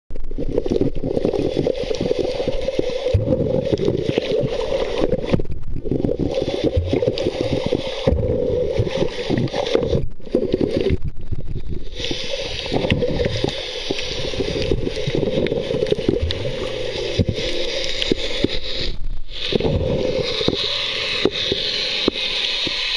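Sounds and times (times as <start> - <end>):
muffled underwater rushing: 0.1 - 22.9.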